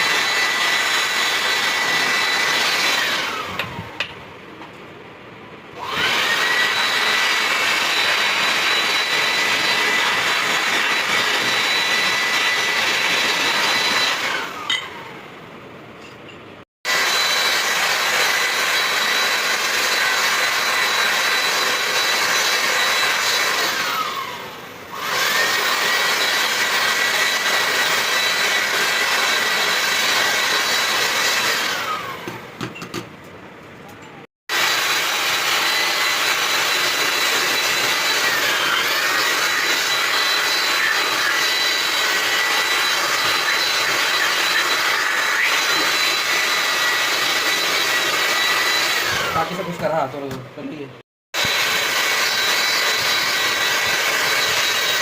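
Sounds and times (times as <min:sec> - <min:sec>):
power grinder whining: 0:00.0 - 0:04.2, 0:05.8 - 0:15.3, 0:16.9 - 0:32.6, 0:34.5 - 0:50.3, 0:51.4 - 0:55.0.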